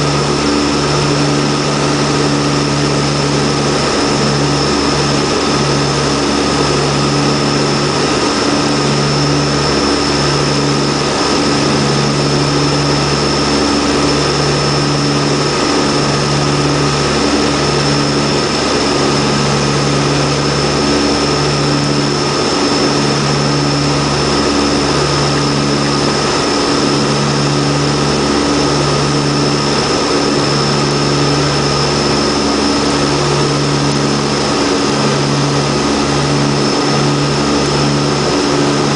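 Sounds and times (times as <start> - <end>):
high engine whine: 0.0 - 38.9
low throbbing propeller hum: 0.0 - 38.9
turboprop engines droning: 0.0 - 38.9.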